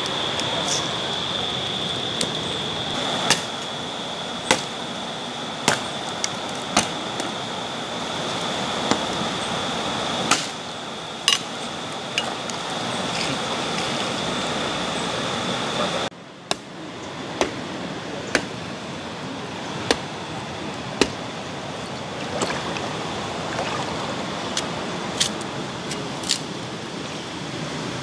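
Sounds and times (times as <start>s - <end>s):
river water rushing: 0.0s - 16.1s, 19.3s - 25.8s.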